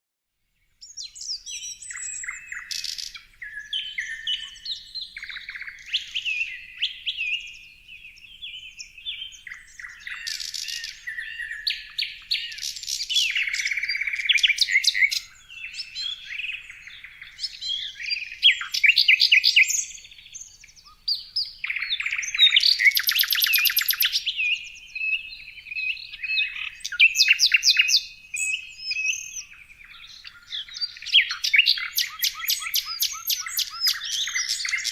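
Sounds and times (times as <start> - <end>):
songbirds singing and chirping: 0.4 - 34.9.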